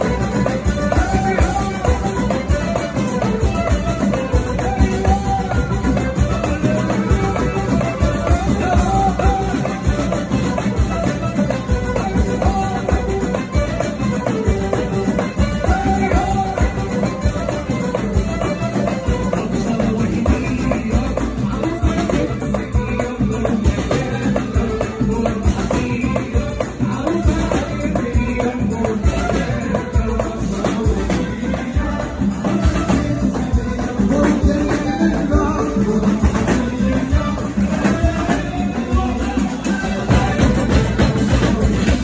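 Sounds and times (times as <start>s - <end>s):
fast steady percussion: 0.0s - 42.0s
lutes: 0.0s - 42.0s
person singing into microphone: 0.0s - 42.0s
saxophone: 0.0s - 42.0s
violins: 0.0s - 42.0s.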